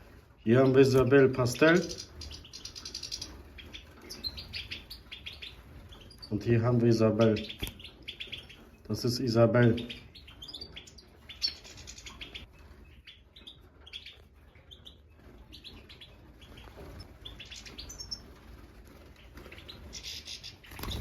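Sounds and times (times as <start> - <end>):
finches chirping: 0.0 - 21.0.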